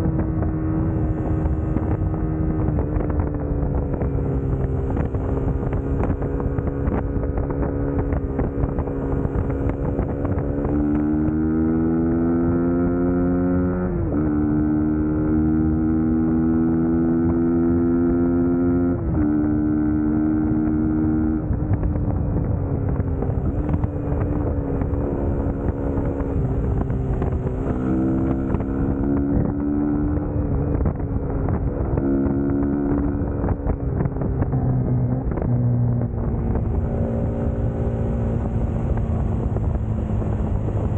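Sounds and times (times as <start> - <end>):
motorcycle engine accelerating: 0.0 - 40.9
wind noise on microphone: 0.0 - 40.9.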